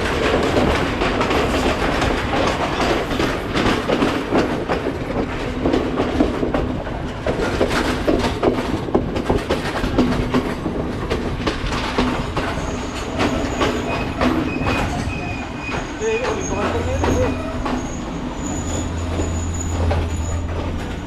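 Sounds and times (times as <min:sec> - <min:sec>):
train rumble: 0:00.0 - 0:21.0
train wheels clattering: 0:00.0 - 0:21.0.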